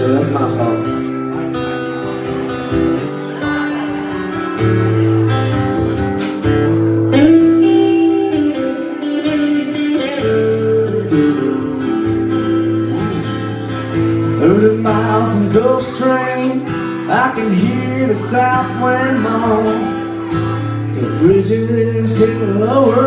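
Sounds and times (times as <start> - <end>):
country band playing: 0.0 - 23.0
sliding guitar line: 0.0 - 23.0.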